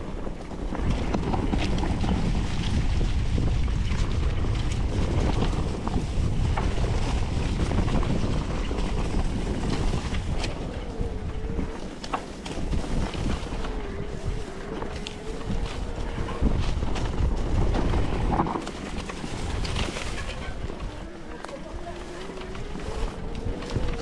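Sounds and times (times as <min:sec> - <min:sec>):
bike clicks and rattles: 0:00.0 - 0:24.0
electric bike rumble: 0:00.0 - 0:24.0
wind buffeting microphone: 0:00.0 - 0:24.0.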